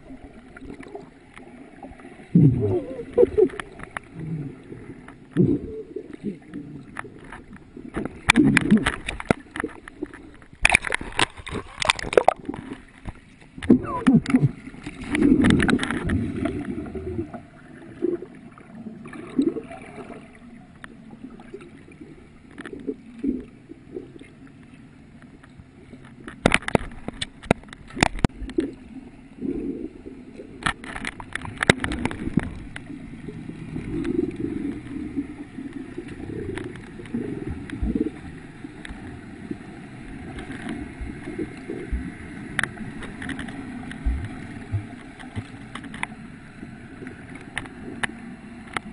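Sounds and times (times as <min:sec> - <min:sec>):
water gurgling underwater: 0:00.0 - 0:24.6, 0:25.8 - 0:48.9
sharp crackling splashes: 0:00.0 - 0:48.9.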